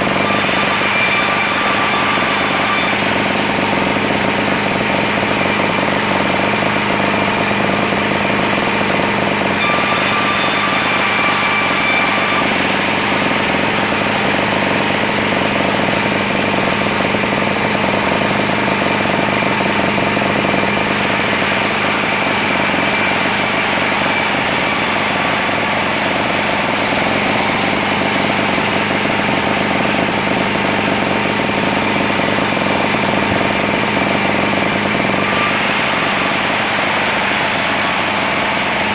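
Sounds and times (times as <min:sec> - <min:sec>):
sawmill drone: 0:00.0 - 0:38.9.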